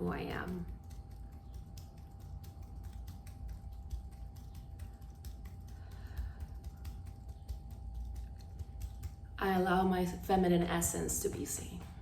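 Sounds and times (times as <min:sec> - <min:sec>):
fingertips tapping on body: 0:00.0 - 0:12.0
low steady hum: 0:00.0 - 0:12.0.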